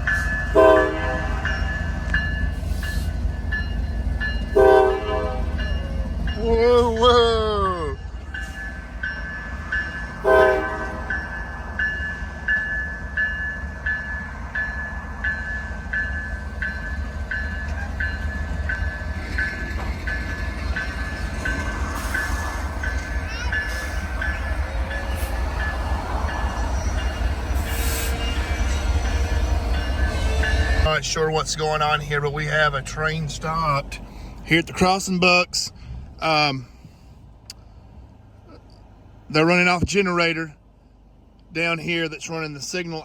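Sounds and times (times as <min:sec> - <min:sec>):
crossing warning bell dinging: 0:00.0 - 0:35.6.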